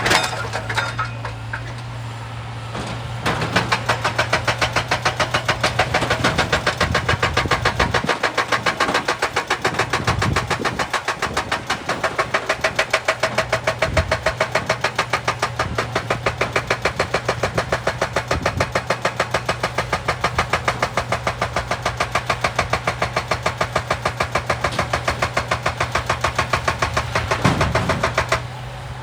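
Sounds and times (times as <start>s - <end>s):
hydraulic breaker hammering rock: 0.0s - 1.9s, 2.7s - 28.6s
excavator engine hum: 0.0s - 29.0s.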